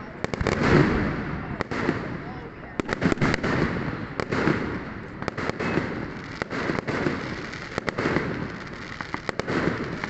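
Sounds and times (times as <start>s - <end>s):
firework cracks and bangs: 0.1s - 10.0s
rumble of distant firework bursts: 0.1s - 10.0s.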